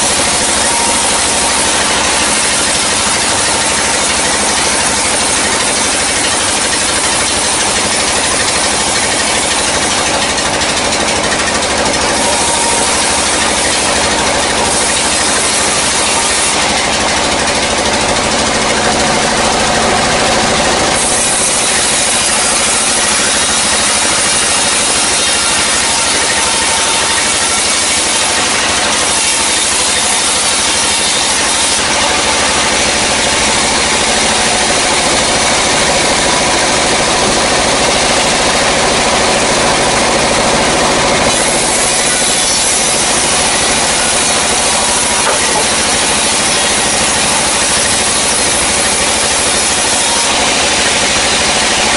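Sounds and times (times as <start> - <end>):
band saw cutting log: 0.0 - 51.9.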